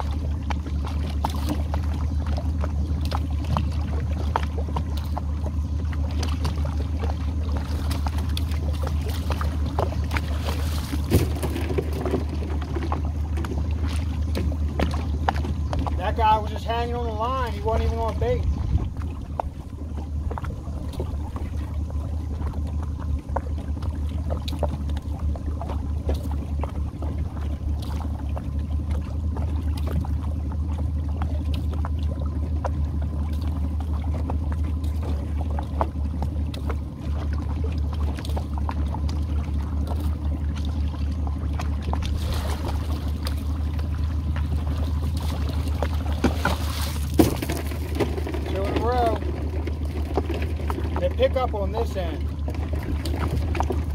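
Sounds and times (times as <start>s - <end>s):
boat motor humming: 0.0s - 53.9s.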